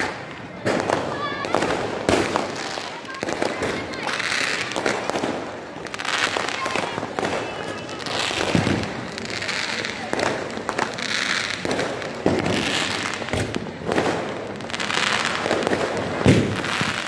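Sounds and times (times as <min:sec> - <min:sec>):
crackle of distant fireworks: 0:00.0 - 0:17.0
sharp firecracker bangs: 0:00.0 - 0:17.0.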